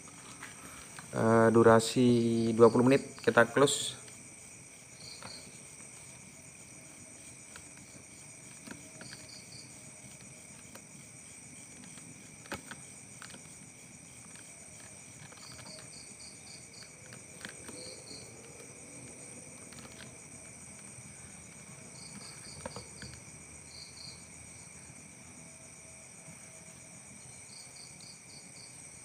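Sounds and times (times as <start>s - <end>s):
crickets trilling: 0.0s - 29.0s
insect chirps: 0.0s - 29.0s.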